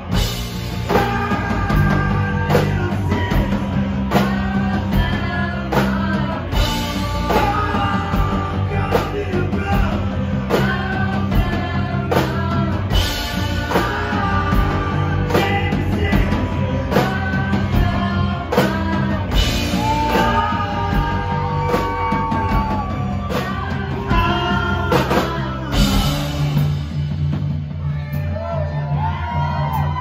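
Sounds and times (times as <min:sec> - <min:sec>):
person singing: 0:00.0 - 0:26.9
bass: 0:00.0 - 0:30.0
drum beat: 0:00.0 - 0:30.0.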